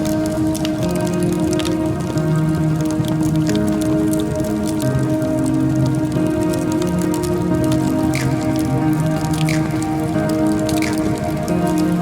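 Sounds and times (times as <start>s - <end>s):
background music with sustained tones: 0.0s - 12.0s
dense crackle of small pops: 0.0s - 12.0s.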